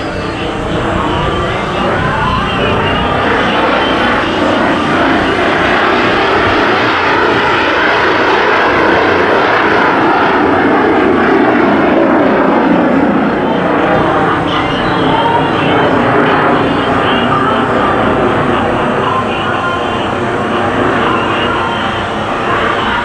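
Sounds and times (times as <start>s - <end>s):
aircraft engine flying past: 0.0s - 23.0s.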